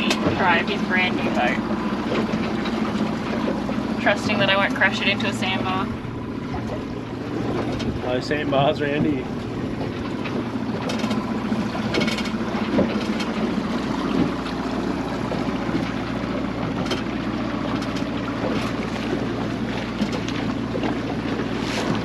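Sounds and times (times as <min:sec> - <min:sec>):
outboard motor running: 0:00.0 - 0:22.0
water rushing past hull: 0:00.0 - 0:22.0.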